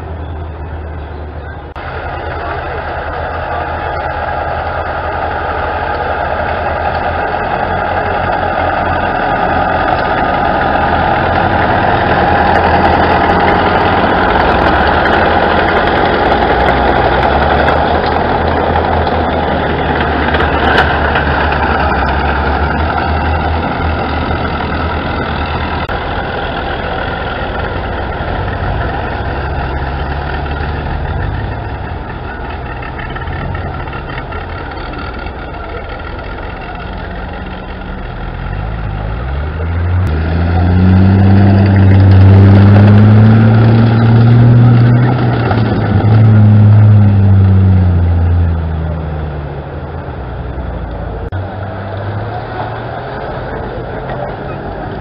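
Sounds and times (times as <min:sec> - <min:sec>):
army truck engine passing: 0:00.0 - 0:55.0
tracked vehicle engine passing: 0:00.0 - 0:55.0.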